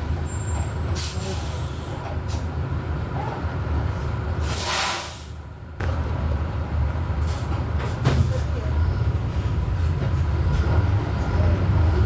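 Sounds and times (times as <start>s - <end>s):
bus low rumble: 0.0s - 12.0s.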